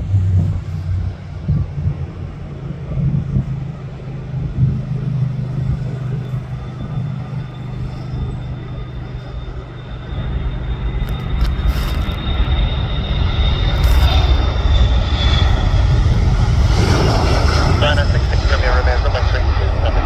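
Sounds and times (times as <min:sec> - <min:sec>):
aircraft engine noise: 0:00.0 - 0:20.0.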